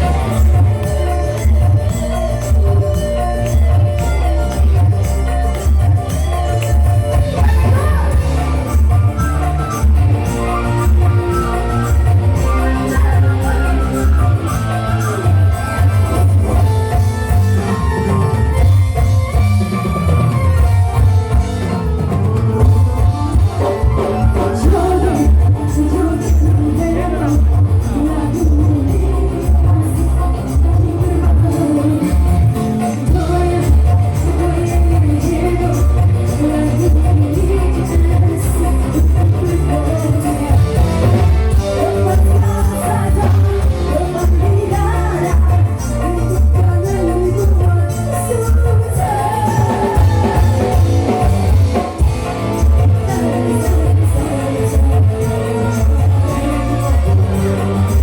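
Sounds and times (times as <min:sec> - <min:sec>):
guitar: 0:00.0 - 0:58.0
live band music over loudspeakers: 0:00.0 - 0:58.0
person singing: 0:00.0 - 0:58.0.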